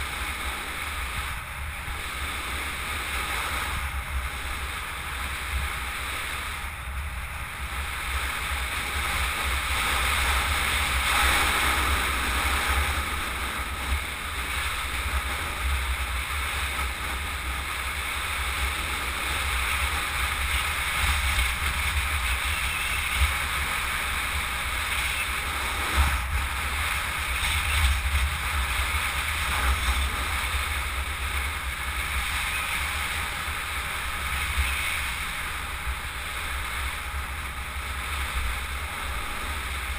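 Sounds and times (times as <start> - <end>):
road noise hiss: 0.0 - 39.9
wind buffeting microphone: 0.0 - 39.9.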